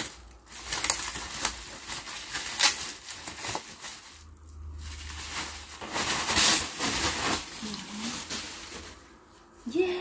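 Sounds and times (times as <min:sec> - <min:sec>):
bubble wrap crinkling: 0:00.0 - 0:09.7.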